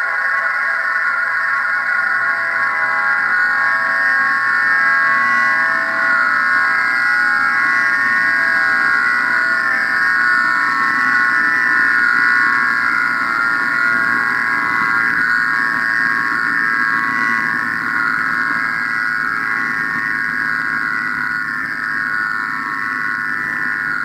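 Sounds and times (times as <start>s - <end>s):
drone of held tones: 0.0s - 24.0s.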